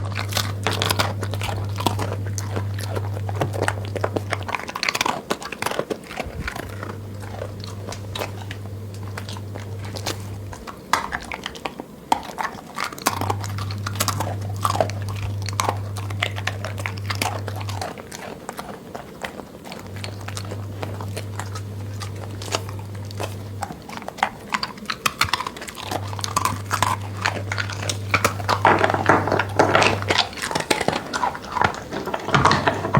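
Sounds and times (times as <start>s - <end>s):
dog chewing food: 0.0s - 32.9s
low steady hum: 0.0s - 32.9s.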